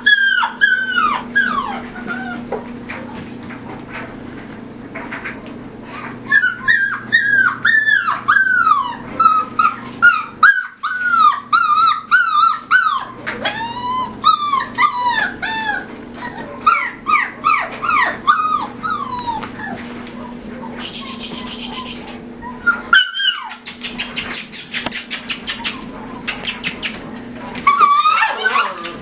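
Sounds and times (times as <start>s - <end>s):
puppies yipping: 0.0s - 3.2s, 5.8s - 29.0s.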